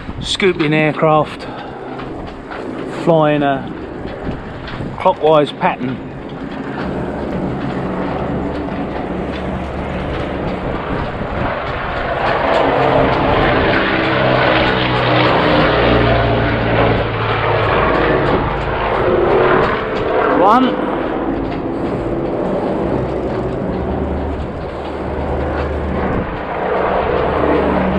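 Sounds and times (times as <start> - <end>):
propeller aircraft droning overhead: 0.0 - 27.9.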